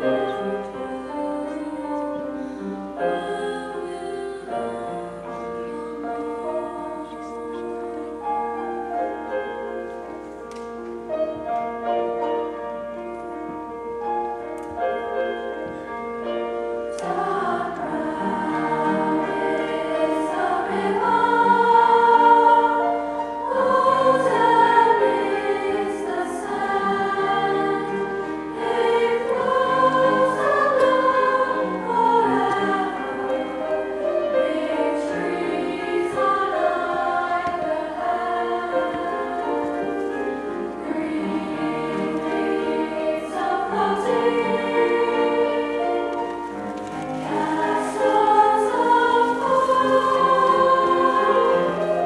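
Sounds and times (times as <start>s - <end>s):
girls' choir singing in harmony: 0.0s - 52.0s
instrumental accompaniment: 0.0s - 52.0s.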